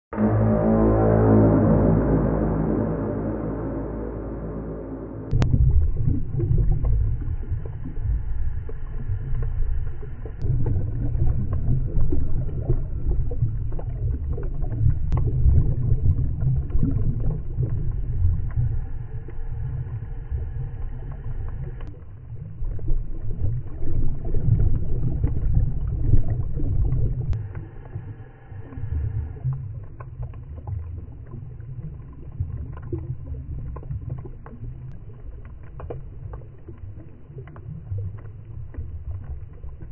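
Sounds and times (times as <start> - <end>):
underwater air bubbles gurgling: 5.3 - 39.9.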